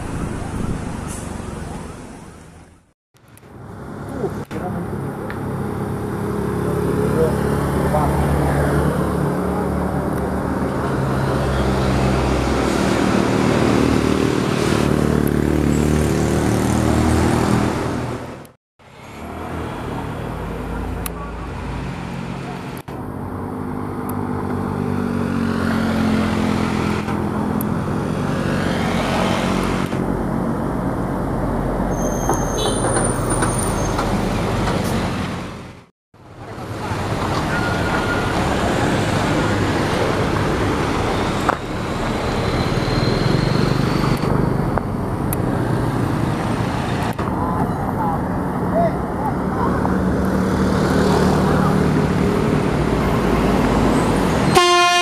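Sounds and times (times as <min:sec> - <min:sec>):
vehicle engines passing by: 0:00.0 - 0:55.0.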